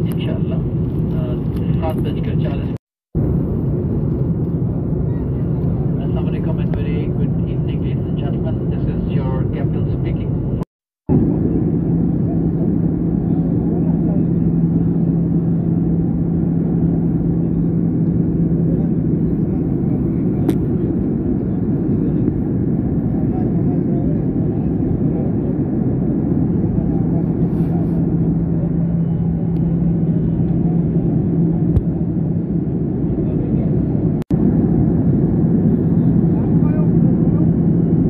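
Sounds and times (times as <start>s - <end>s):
jet engines and airflow rushing: 0.0s - 38.0s
low hum: 0.0s - 38.0s.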